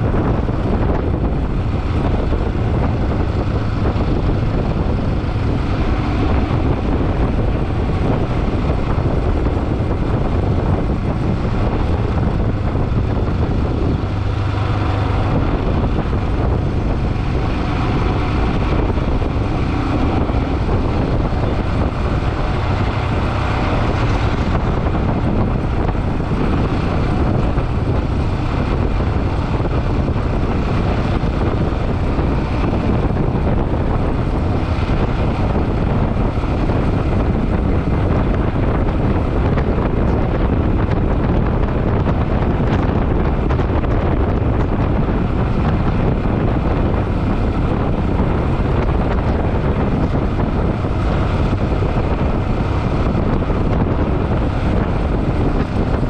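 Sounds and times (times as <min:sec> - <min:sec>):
motorcycle engine and road noise: 0:00.0 - 0:56.0
wind rushing over microphone: 0:00.0 - 0:56.0.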